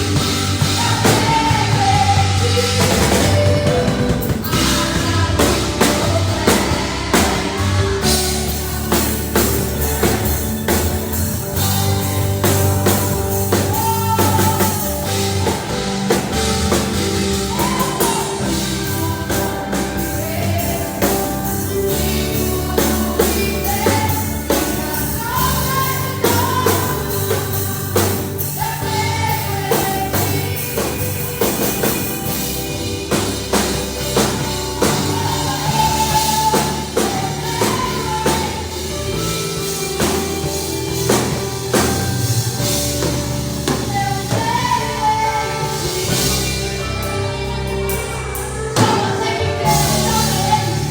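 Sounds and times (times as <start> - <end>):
band music with singing: 0.0 - 50.9.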